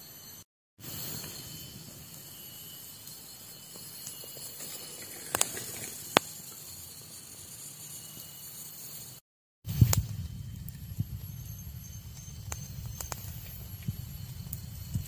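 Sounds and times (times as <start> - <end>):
pot of water hissing: 0.2 - 15.0.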